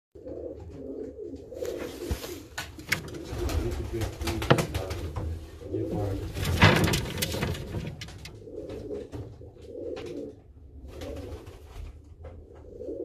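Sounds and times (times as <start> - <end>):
pigeons cooing: 0.2 - 13.0.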